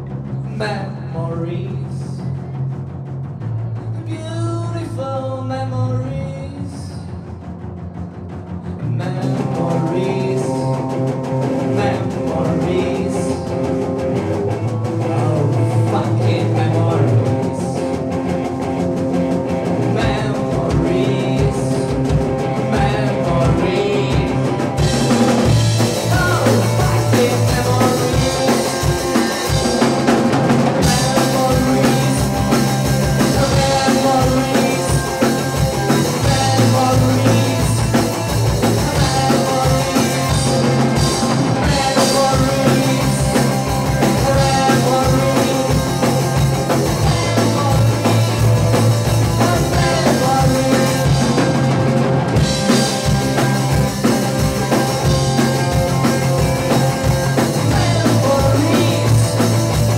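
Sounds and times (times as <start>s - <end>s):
bass guitar: 0.0s - 59.9s
drums: 0.0s - 59.9s
electric guitar: 1.5s - 59.9s.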